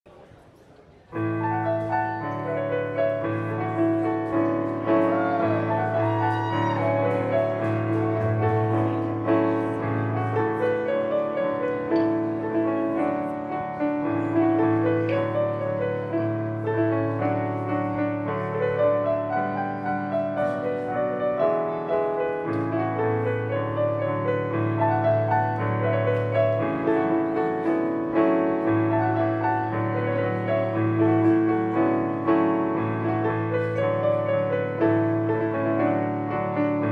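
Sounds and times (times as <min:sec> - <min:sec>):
electric keyboard chords and melody: 0:01.2 - 0:36.9.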